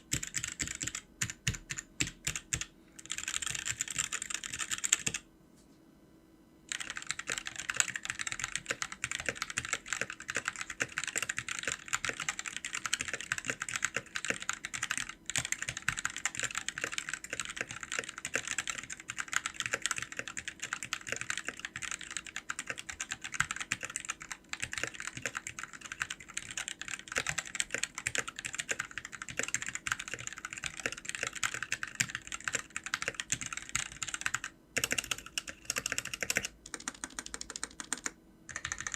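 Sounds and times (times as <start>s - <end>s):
mechanical keyboard typing: 0.0s - 5.2s, 6.7s - 38.9s.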